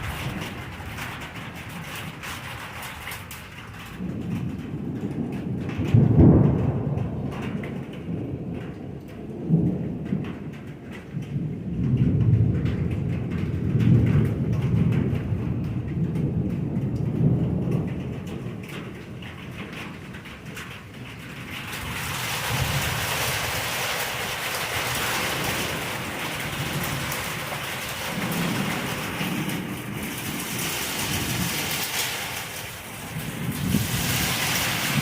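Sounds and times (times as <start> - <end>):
rain falling: 0.0 - 35.0
thunder rumbling: 0.0 - 35.0.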